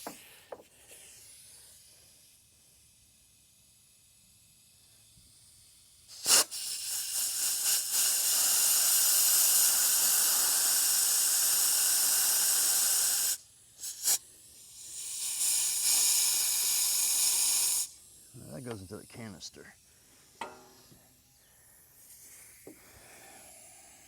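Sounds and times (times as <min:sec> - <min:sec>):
air hissing through vacuum hose: 0:00.0 - 0:24.0.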